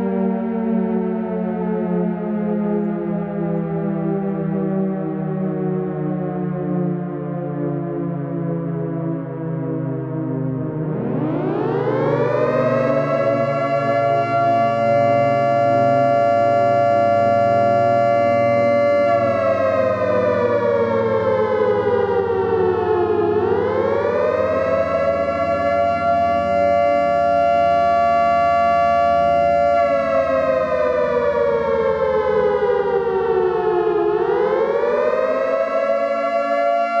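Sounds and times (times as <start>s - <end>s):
air raid siren wailing: 0.0s - 37.0s.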